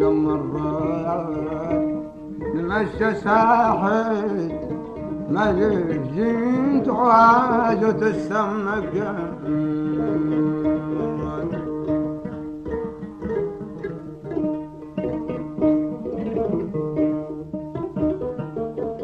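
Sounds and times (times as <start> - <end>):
plucked string instrument melody: 0.0 - 19.0.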